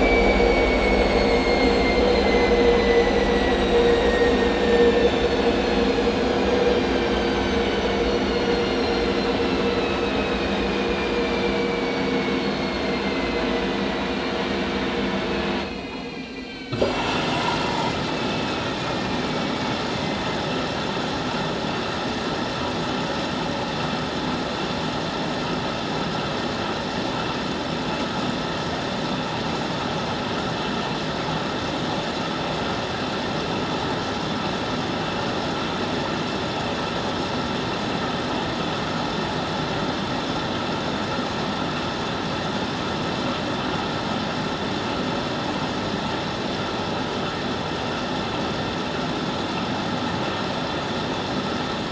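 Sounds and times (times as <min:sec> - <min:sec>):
washing machine running: 0:00.0 - 0:51.9.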